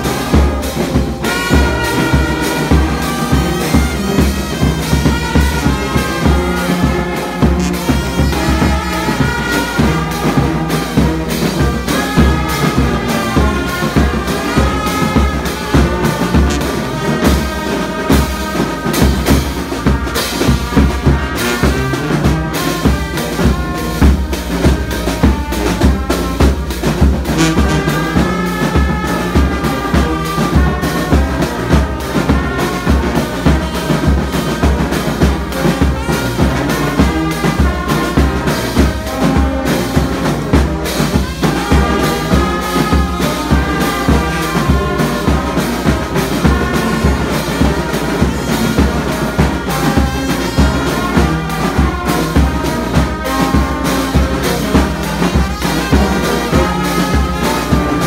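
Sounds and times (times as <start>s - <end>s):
brass band playing march: 0.0s - 58.0s.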